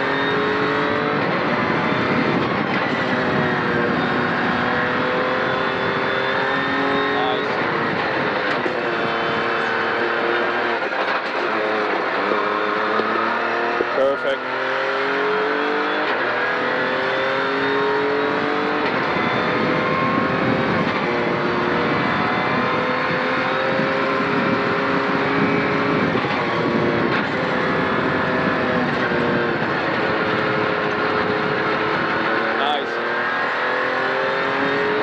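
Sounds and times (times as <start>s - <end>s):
rally car engine from inside cabin: 0.0s - 35.0s.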